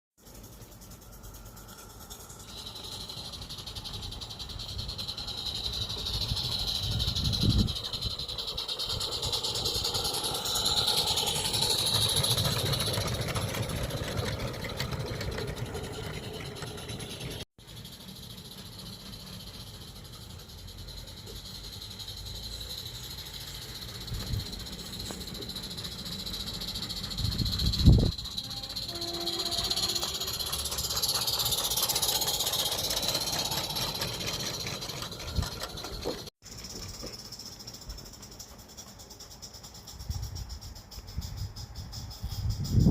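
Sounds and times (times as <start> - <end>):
steam locomotive running: 0.2 - 42.9.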